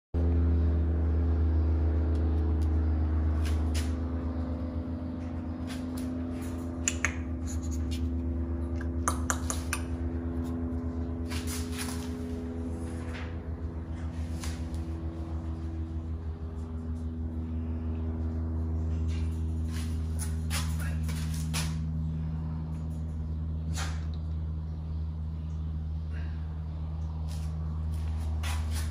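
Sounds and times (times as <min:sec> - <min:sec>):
low mechanical hum: 0:00.2 - 0:28.9.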